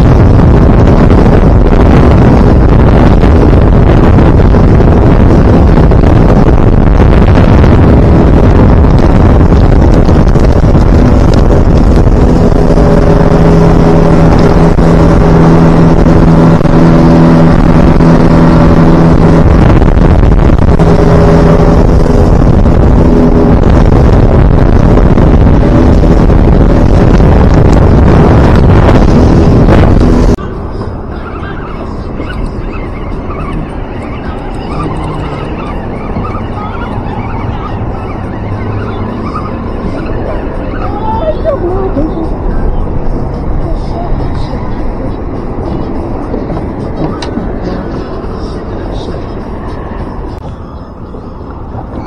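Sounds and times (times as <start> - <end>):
outboard motor hum: 0.0 - 44.3
hull rushing over water: 0.0 - 50.4
wind buffeting microphone: 0.0 - 52.0.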